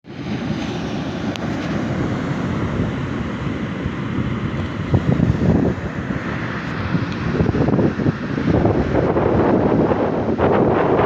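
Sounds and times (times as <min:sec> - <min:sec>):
sea waves washing on a beach: 0:00.0 - 0:11.0
wind buffeting the microphone: 0:00.2 - 0:11.0.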